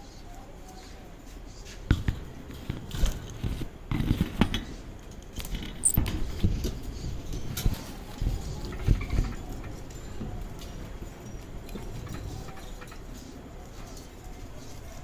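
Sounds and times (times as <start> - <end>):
knocks scrapes and rustles: 1.2 - 15.0.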